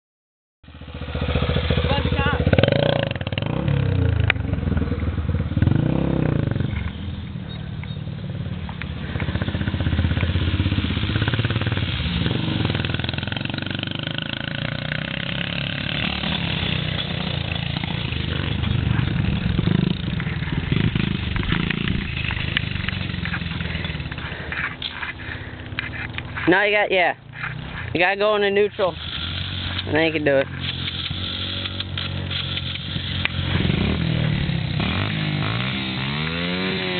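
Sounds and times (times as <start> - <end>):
dirt bike engine revving: 0.7 - 6.9, 9.0 - 36.9.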